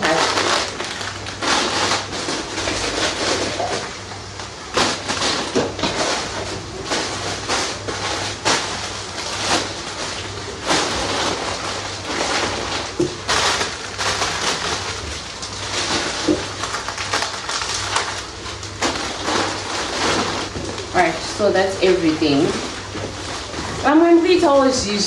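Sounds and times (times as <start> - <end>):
plastic packaging rustling: 0.0 - 24.7
low steady hum: 0.0 - 25.0.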